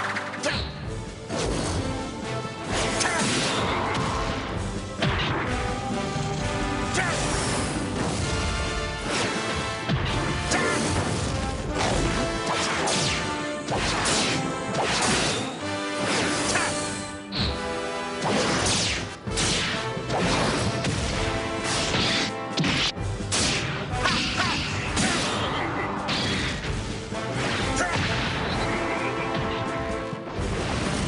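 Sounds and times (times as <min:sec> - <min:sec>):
background music: 0:00.0 - 0:31.0.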